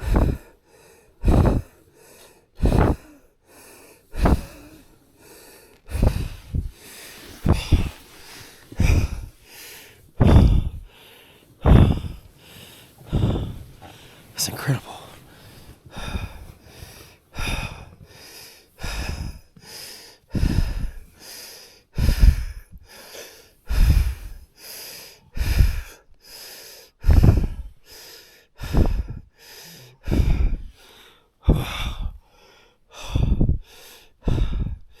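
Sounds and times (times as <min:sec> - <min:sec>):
man breathing rapidly and hard: 0:00.0 - 0:35.0.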